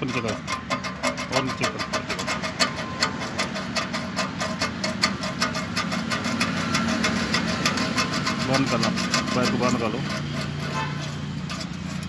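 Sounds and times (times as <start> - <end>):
engine idling with rapid ticking: 0.0 - 12.0.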